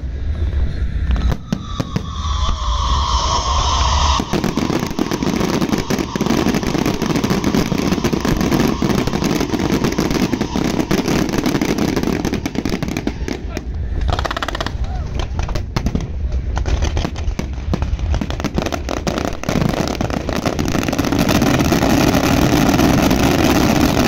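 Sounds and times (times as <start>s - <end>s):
firework whistling: 0.0s - 15.4s, 16.8s - 24.0s
fireworks crackling: 0.0s - 24.0s.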